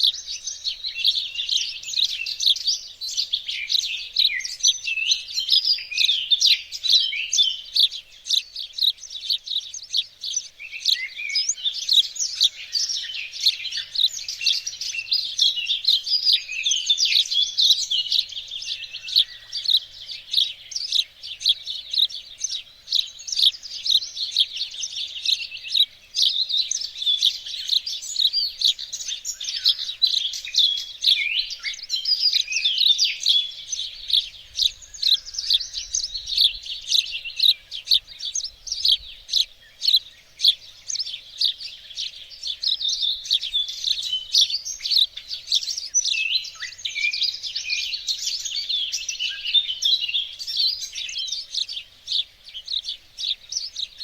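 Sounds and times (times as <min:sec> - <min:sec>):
birds singing and chirping: 0:00.0 - 0:54.0.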